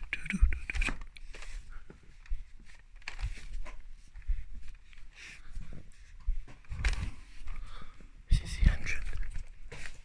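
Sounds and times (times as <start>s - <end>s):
rustling: 0.0s - 8.1s, 8.8s - 10.0s.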